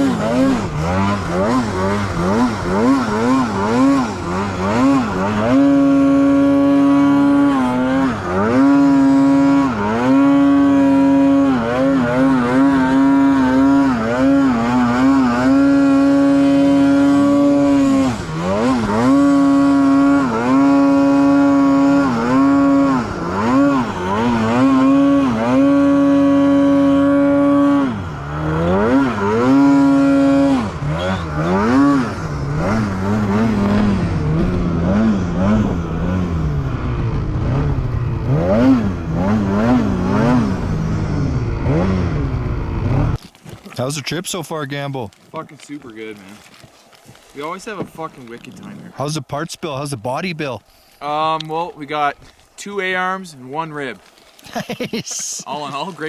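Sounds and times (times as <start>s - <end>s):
snowmobile engine revving: 0.0s - 46.2s, 47.6s - 56.0s.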